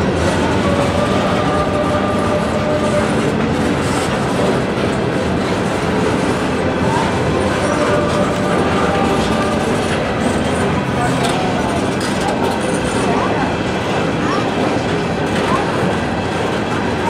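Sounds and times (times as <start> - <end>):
steel wheels clattering on rails: 0.0 - 17.0.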